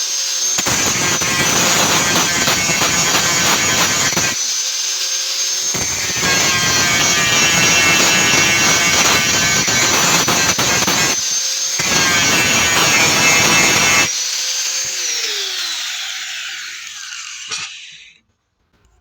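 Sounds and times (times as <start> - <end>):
electric grinder grinding iron: 0.0 - 18.2
grinder motor winding down: 0.2 - 18.2.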